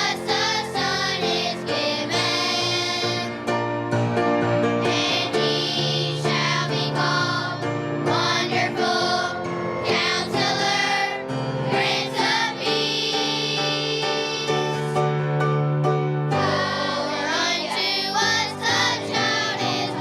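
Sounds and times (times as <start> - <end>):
choir singing: 0.0 - 3.7, 4.3 - 15.0, 16.2 - 20.0
instrumental accompaniment: 0.0 - 20.0.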